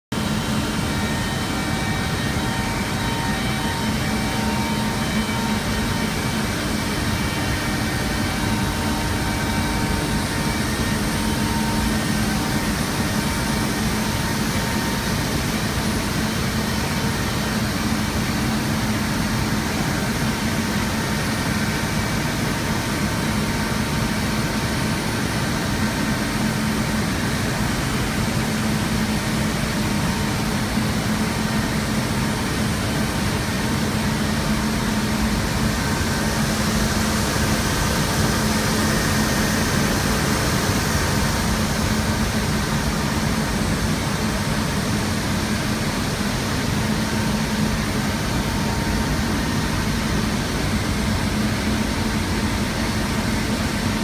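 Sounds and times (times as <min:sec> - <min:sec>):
faint steady whines: 0:00.1 - 0:54.0.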